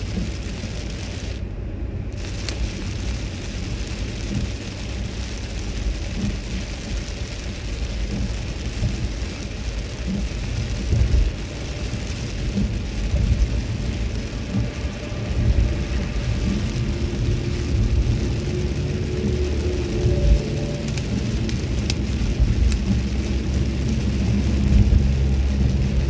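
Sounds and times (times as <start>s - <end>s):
rain and tyre spray hiss: 0.0s - 26.0s
road noise rumble: 0.0s - 26.0s.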